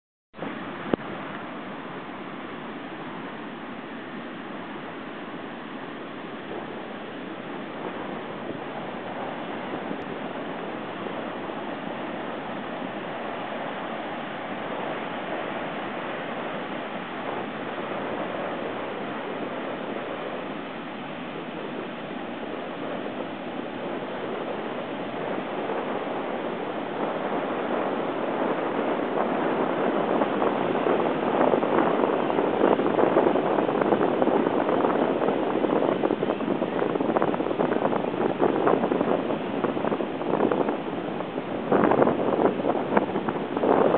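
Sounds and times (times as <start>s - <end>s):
heavy surf breaking: 0.4s - 43.9s
wind on microphone: 0.4s - 43.9s.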